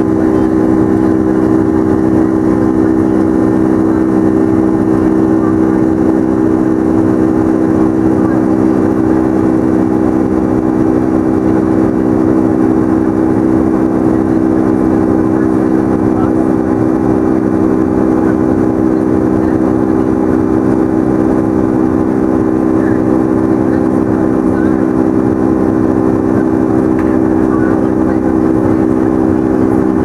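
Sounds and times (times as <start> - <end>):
jet engine drone in cabin: 0.0 - 30.0.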